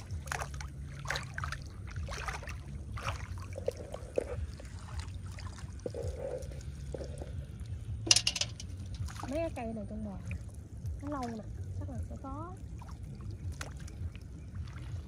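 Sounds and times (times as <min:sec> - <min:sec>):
shallow water splashing: 0:00.0 - 0:15.0
steady low hum: 0:00.0 - 0:15.0.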